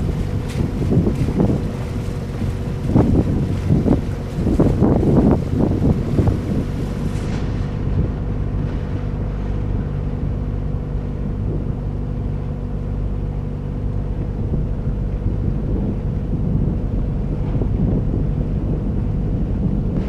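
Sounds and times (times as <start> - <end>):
boat engine humming: 0.0 - 20.0
wind on microphone: 0.0 - 20.0.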